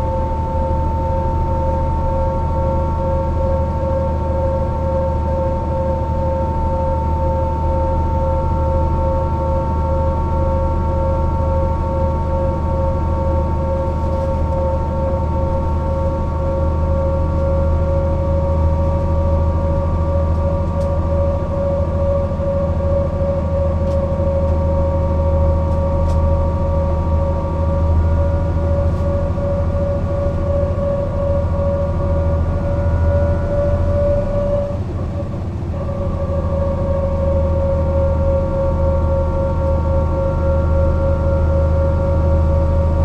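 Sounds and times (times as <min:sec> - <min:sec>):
bus engine drone: 0:00.0 - 0:43.0
high whine: 0:00.0 - 0:43.0.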